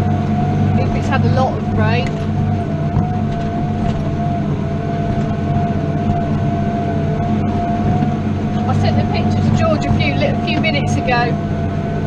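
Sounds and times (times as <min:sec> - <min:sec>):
steady high whine: 0:00.0 - 0:12.0
tractor diesel engine under load: 0:00.0 - 0:12.0.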